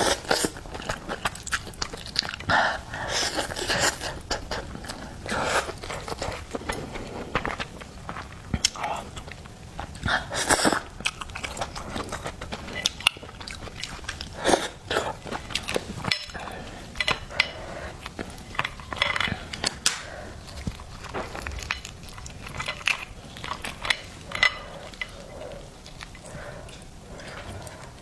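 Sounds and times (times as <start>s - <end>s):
person chewing lobster: 0.0s - 28.0s.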